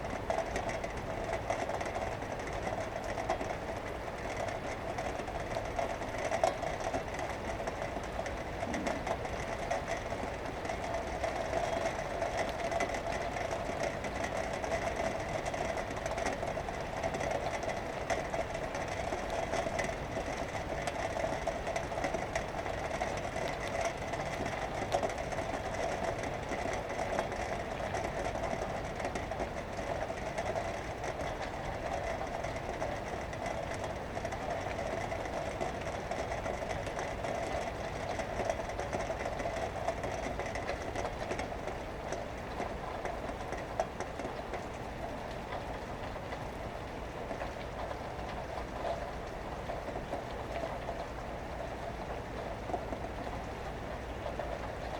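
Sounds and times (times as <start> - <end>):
rain: 0.0 - 54.9.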